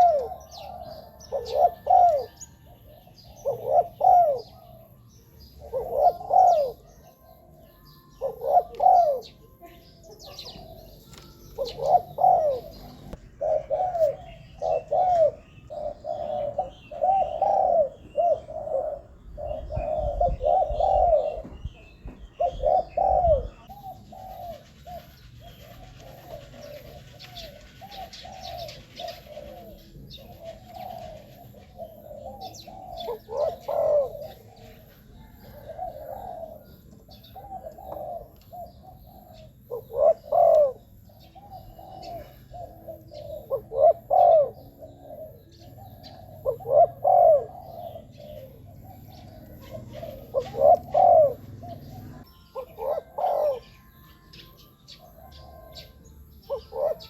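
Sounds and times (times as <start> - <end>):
doves cooing: 0.0 - 57.0
small birds chirping: 0.0 - 57.0.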